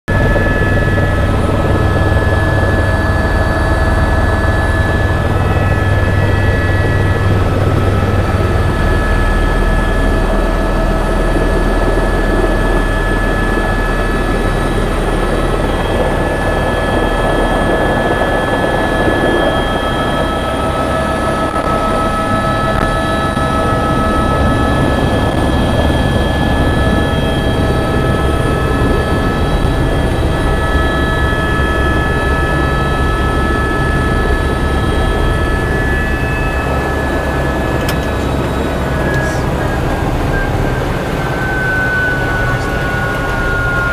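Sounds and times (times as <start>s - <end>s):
helicopter rotor drone: 0.1s - 43.9s
helicopter turbine whine: 0.1s - 43.9s.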